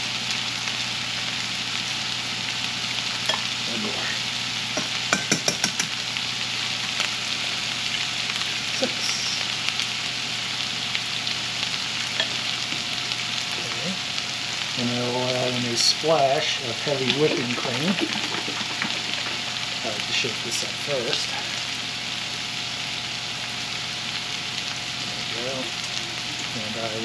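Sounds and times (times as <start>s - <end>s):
food sizzling in a skillet: 0.0s - 27.0s.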